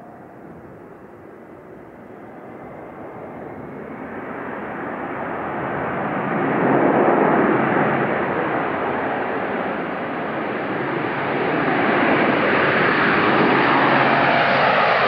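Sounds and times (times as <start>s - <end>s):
turboprop aircraft engines drone: 0.0s - 15.0s.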